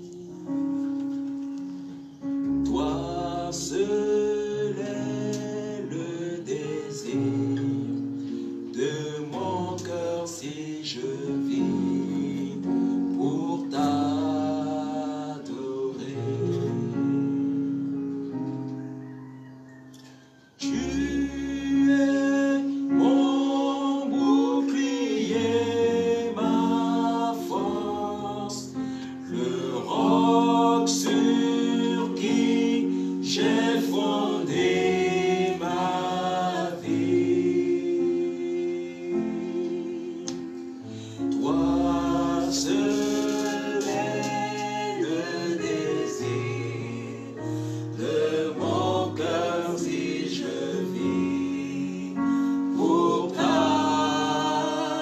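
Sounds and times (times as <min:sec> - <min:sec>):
group singing worship song: 0:00.0 - 0:18.4, 0:20.0 - 0:55.0.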